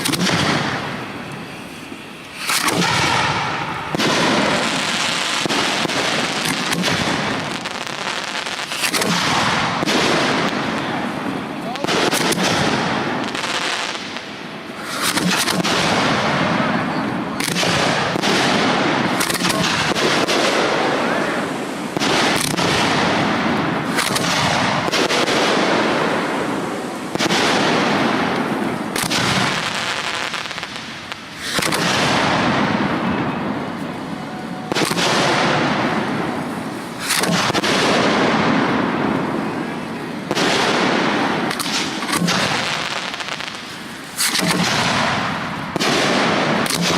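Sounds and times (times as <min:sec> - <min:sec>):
firework hiss and crackle: 0:00.0 - 0:46.9
firework shells banging: 0:00.0 - 0:46.9.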